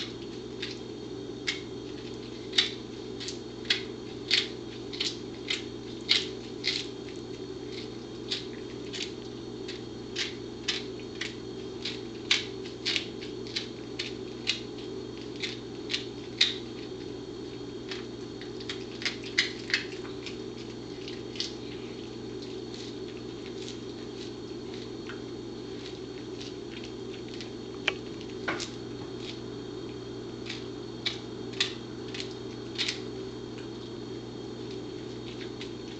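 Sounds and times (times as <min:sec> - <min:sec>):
dog gnawing a chew: 0:01.4 - 0:33.8, 0:34.6 - 0:35.9.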